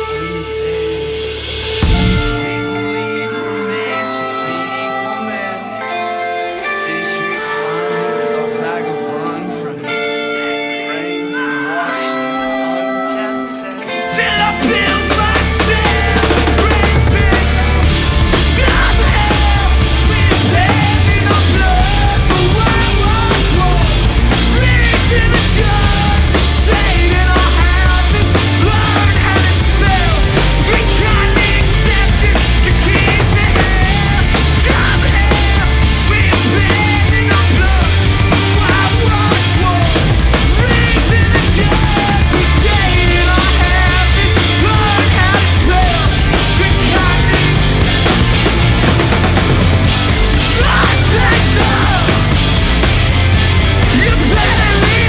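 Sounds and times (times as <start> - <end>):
live punk rock band: 0.0 - 55.0.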